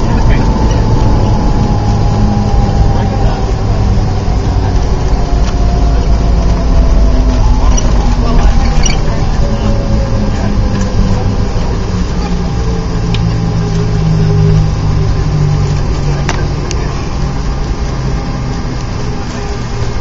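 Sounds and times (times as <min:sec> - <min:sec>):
jet engine and rolling rumble: 0:00.0 - 0:20.0.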